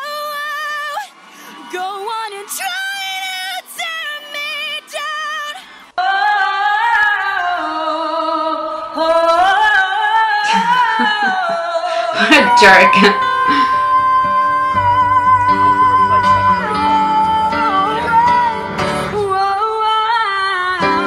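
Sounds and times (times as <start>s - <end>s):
woman singing pop: 0.0s - 21.0s.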